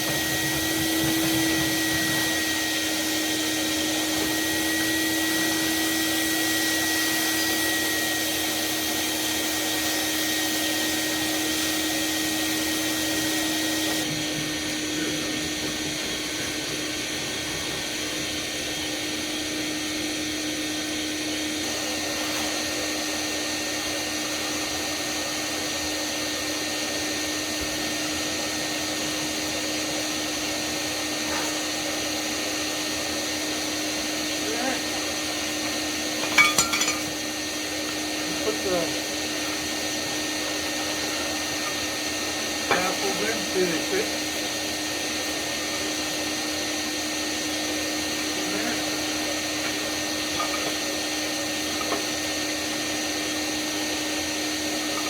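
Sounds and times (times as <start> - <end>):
shop vacuum running: 0.0 - 55.0.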